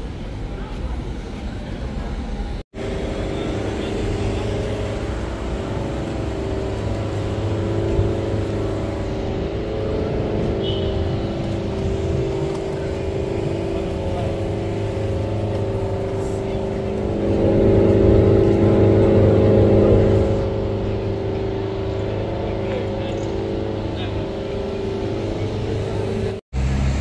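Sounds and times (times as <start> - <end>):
low rumble of engines: 0.0 - 27.0
street traffic hum: 0.0 - 27.0.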